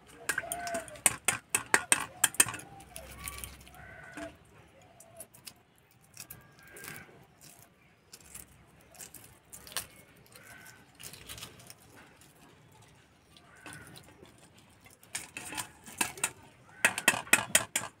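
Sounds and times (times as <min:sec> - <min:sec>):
eggshells cracking and peeling: 0:00.0 - 0:18.0.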